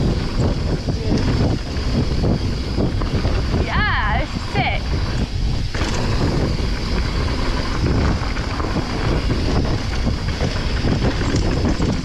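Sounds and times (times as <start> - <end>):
bike knocks and rattles: 0.0 - 12.0
tyres rolling on dirt: 0.0 - 12.0
wind buffeting microphone: 0.0 - 12.0.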